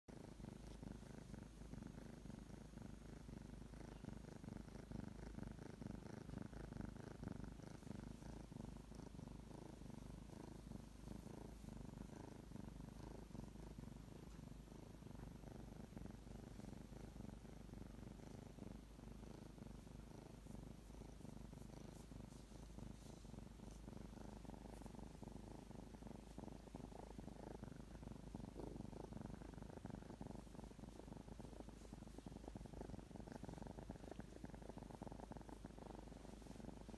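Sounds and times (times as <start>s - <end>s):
kitten purring: 0.0s - 36.9s.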